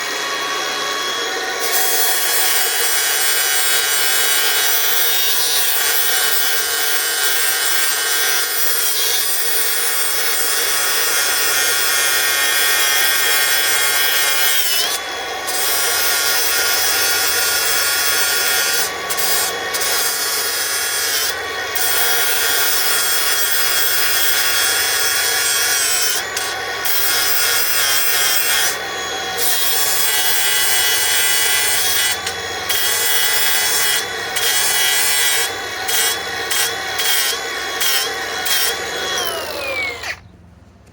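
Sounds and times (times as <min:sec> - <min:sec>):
angle grinder grinding metal: 0:00.0 - 0:40.3.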